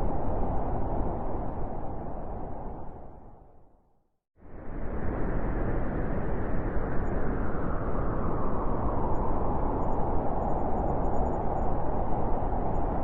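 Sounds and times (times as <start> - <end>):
strong wind through forest: 0.0 - 3.8, 4.4 - 13.0.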